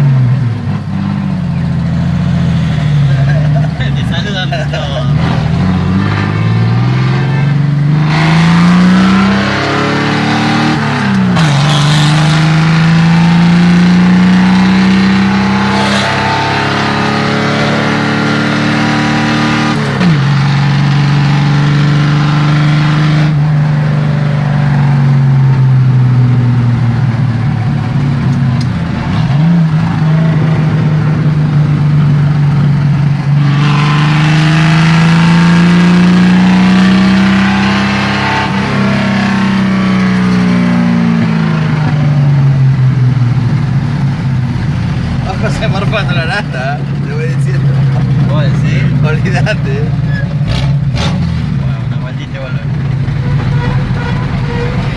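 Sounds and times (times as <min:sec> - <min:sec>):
car engine on open exhaust: 0:00.0 - 0:54.9.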